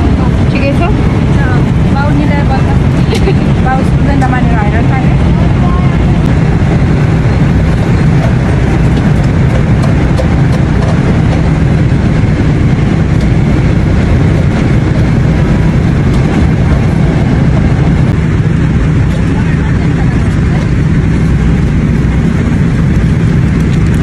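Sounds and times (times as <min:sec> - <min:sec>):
jet airliner cabin roar: 0:00.0 - 0:24.0.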